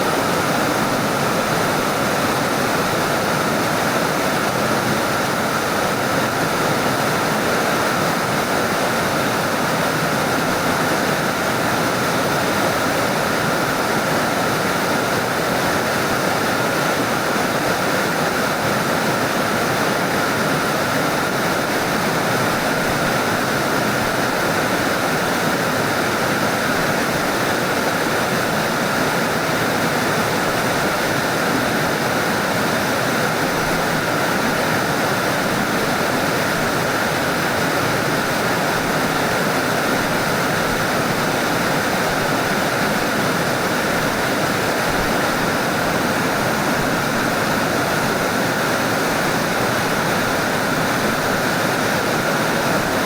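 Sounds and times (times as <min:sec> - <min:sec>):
stream water rushing over rocks: 0:00.0 - 0:53.0.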